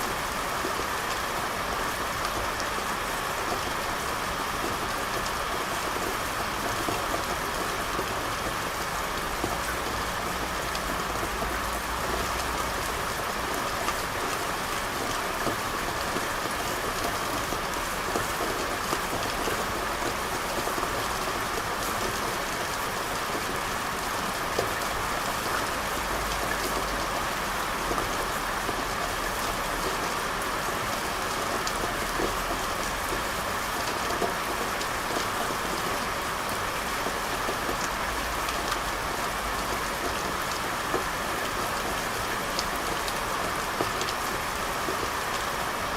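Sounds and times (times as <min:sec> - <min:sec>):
rain on hard surfaces: 0:00.0 - 0:45.9.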